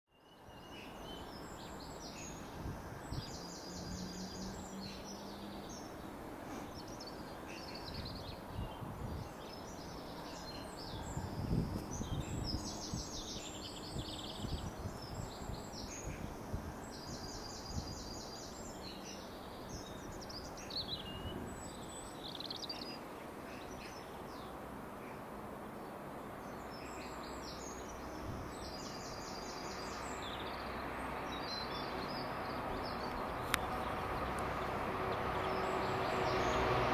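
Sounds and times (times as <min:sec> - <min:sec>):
songbirds trilling: 0:00.1 - 0:36.9.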